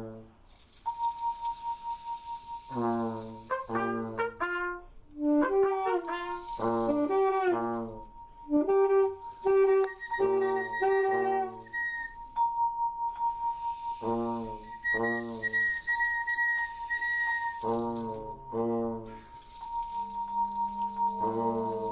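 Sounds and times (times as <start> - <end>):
steady high tone: 0.8 - 21.9
ensemble playing short held notes: 2.7 - 12.1, 13.4 - 21.9.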